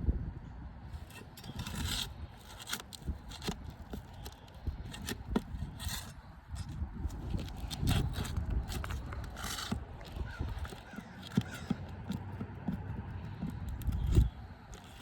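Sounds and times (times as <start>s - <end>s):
pry bar scraping roof shingles: 1.0s - 15.0s.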